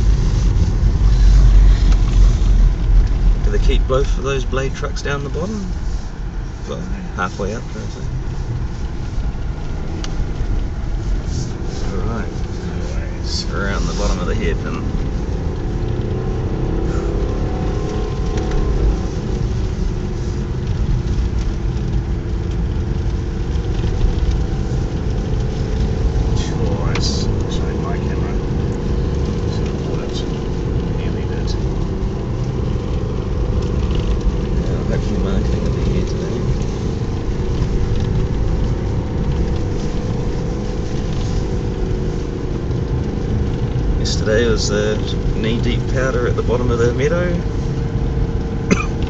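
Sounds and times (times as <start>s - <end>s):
car engine running under load: 0.0s - 49.0s
road rumble: 0.0s - 49.0s.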